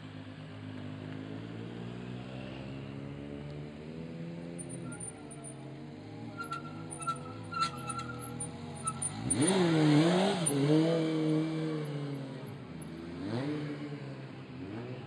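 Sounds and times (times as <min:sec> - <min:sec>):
motorcycle engine revving: 0:02.0 - 0:15.0.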